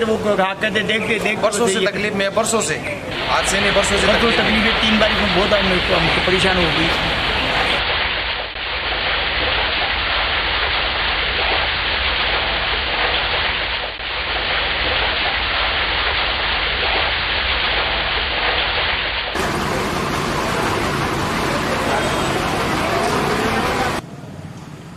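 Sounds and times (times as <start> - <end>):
heavy rain falling: 3.1 - 24.0.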